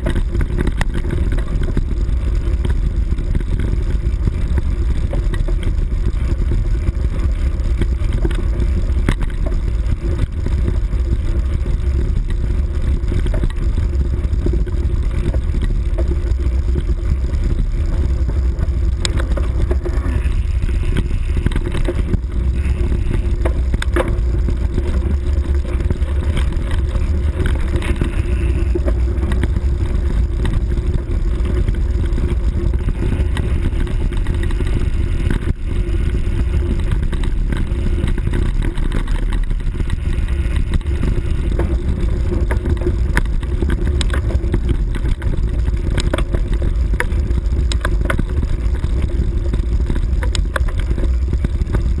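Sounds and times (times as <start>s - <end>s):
wind buffeting microphone: 0.0s - 52.0s
camera knocking over bumps: 7.7s - 52.0s.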